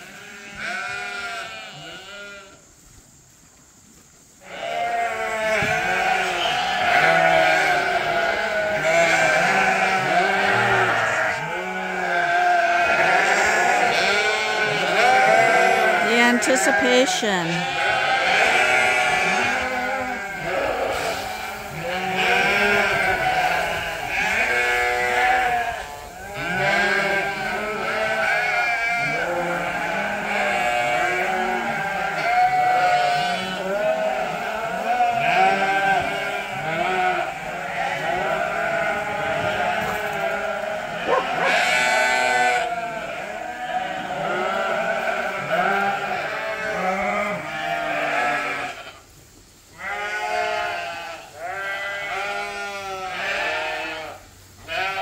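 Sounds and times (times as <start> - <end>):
sheep bleating: 0.0 - 2.6, 4.4 - 49.0, 49.8 - 55.0.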